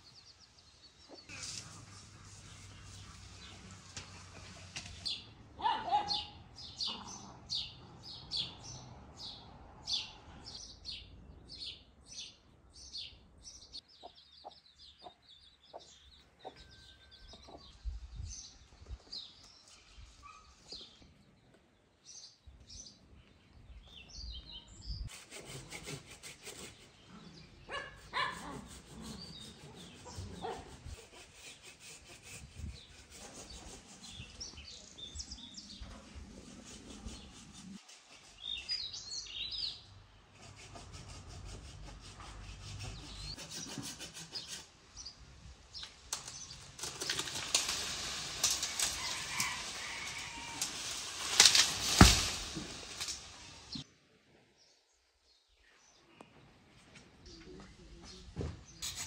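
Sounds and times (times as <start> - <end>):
birds chirping: 0.0 - 25.7, 26.3 - 53.9.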